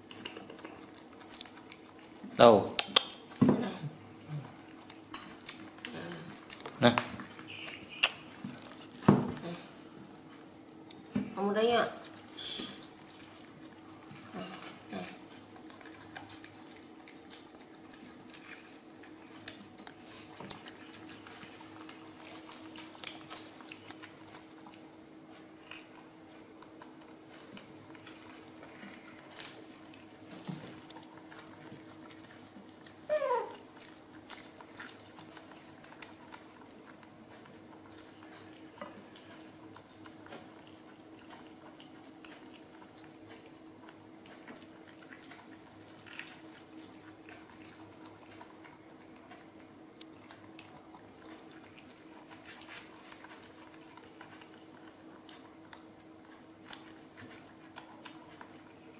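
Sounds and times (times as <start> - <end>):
monkeys chewing fruit: 0.0 - 58.9.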